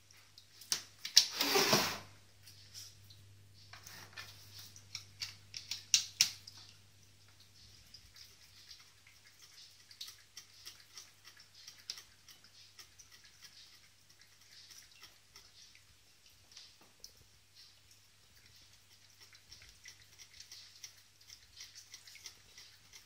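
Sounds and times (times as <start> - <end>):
faint low hum: 2.0 - 23.0
cat lapping water: 3.8 - 23.0.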